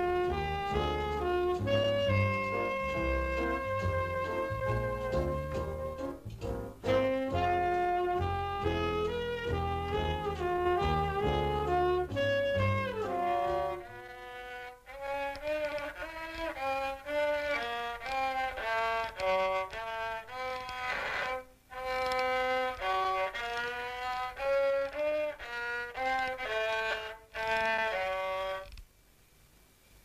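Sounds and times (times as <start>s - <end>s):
solo violin melody: 0.0s - 28.8s.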